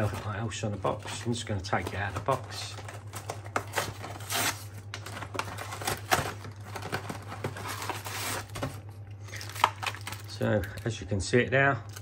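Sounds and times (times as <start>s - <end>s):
cardboard and plastic scraping: 0.0s - 10.3s.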